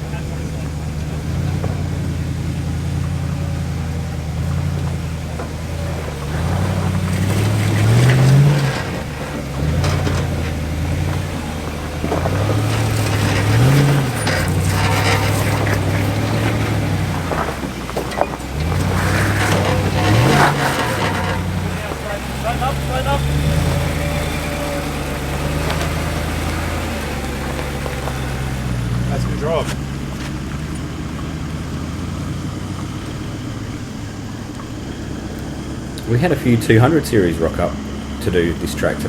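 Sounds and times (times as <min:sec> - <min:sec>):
off-road engine revving: 0:00.0 - 0:39.0
vehicle crunching over rocks: 0:00.0 - 0:39.0.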